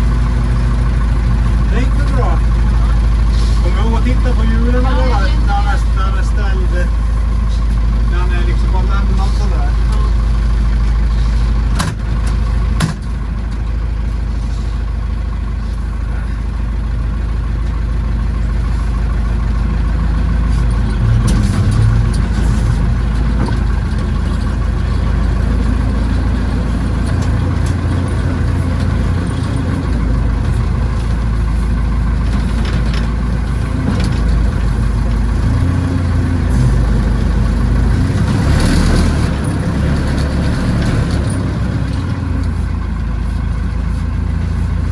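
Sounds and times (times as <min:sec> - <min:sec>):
tractor engine working: 0:00.0 - 0:44.9.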